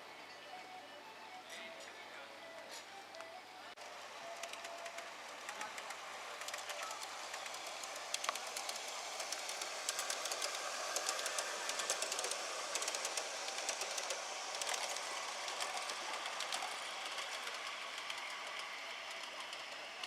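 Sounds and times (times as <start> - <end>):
model train wheels clicking: 3.8 - 20.0.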